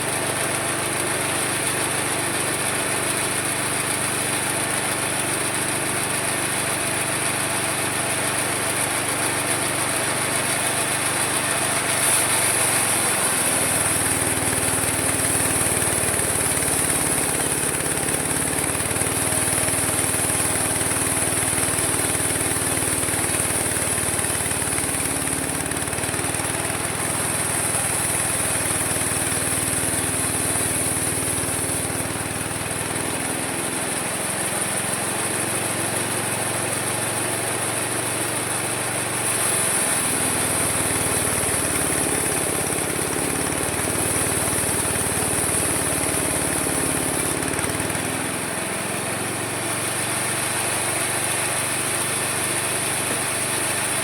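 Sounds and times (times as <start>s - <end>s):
sawmill motor whining: 3.4s - 33.4s, 38.4s - 51.8s.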